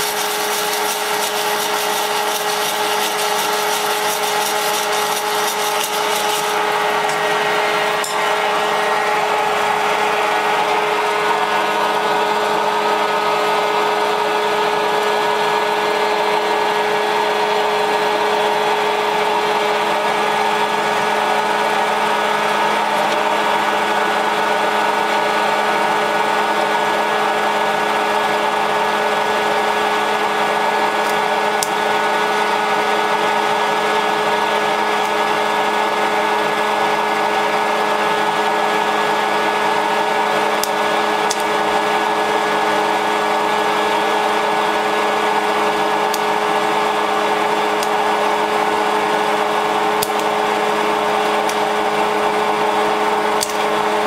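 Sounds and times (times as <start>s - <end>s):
popcorn maker motor hum: 0.0s - 54.0s.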